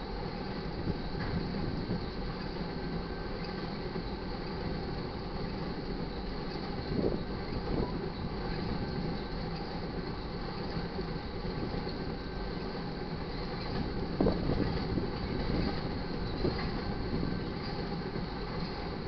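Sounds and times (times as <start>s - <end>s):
train clanking: 0.0s - 19.0s
train wheels rumbling on rail: 0.0s - 19.0s.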